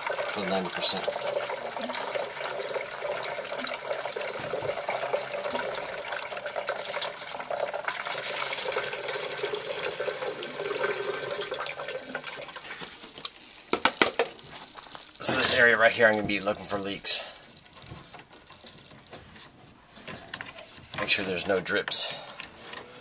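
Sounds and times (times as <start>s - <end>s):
water running through hoses: 0.0s - 22.2s.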